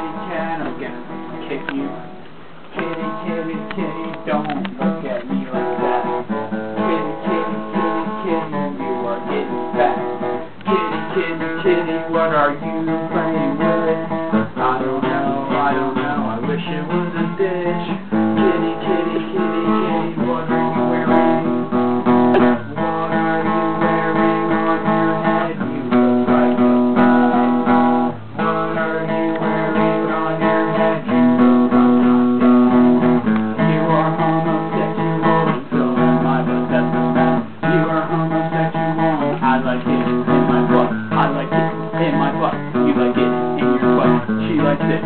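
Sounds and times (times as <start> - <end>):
guitar strumming chords: 0.0 - 45.0.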